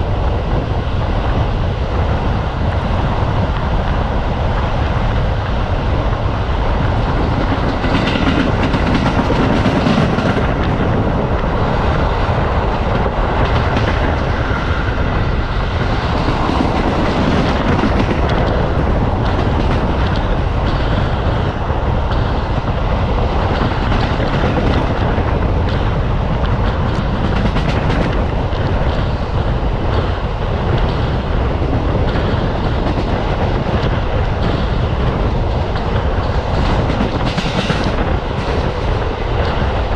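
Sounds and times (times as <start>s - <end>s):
clickety-clack over rail joints: 0.0s - 39.9s
train wheels rumbling on track: 0.0s - 39.9s.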